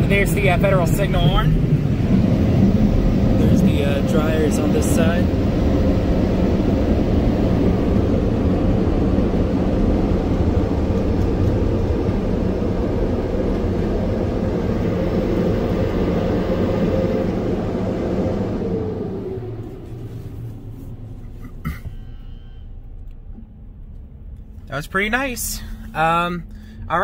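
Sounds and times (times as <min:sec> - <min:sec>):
car wash blower dryers: 0:00.0 - 0:22.6, 0:24.7 - 0:27.0.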